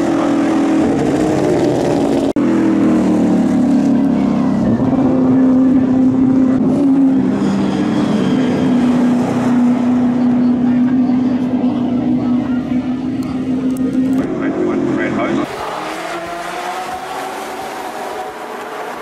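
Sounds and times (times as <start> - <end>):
race car engines running: 0.0 - 19.0.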